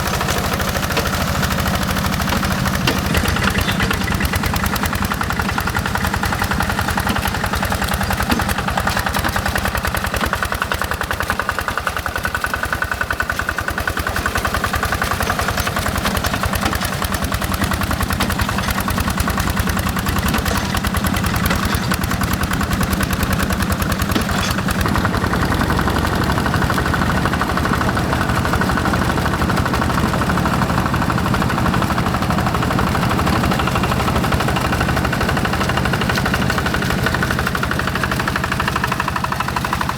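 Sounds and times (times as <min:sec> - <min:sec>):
diesel engine knocking beat: 0:00.0 - 0:39.9.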